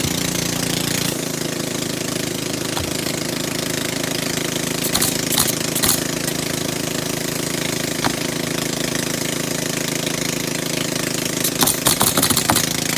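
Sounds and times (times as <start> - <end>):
pneumatic nailer shots: 0.0 - 9.0, 11.3 - 12.9
engine drone: 0.0 - 12.9.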